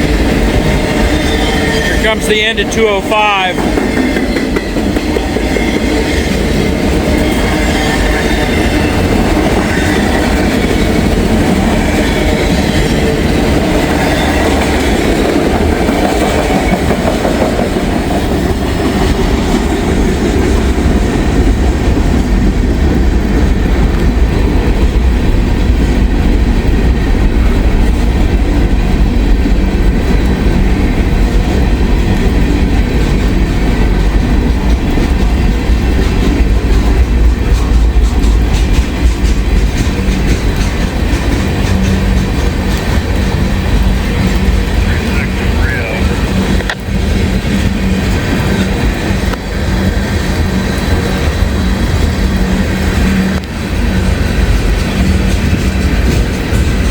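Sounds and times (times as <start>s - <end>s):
freight train rumbling past: 0.0s - 56.9s
wheels clicking over rail joints: 3.6s - 56.9s.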